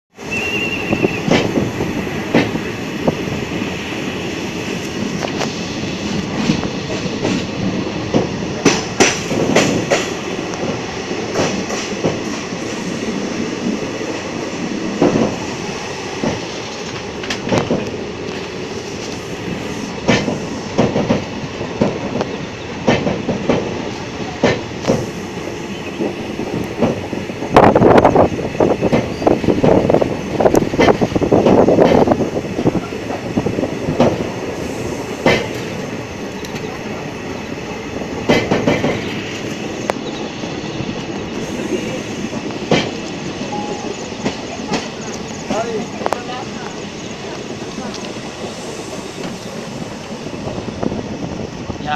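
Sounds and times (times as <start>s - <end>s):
train wheels rumbling on rail: 0.1s - 51.9s
clacks over the track: 0.4s - 3.2s, 4.8s - 12.8s, 16.2s - 19.2s, 20.0s - 25.1s, 25.9s - 34.4s, 35.1s - 37.1s, 37.7s - 50.9s.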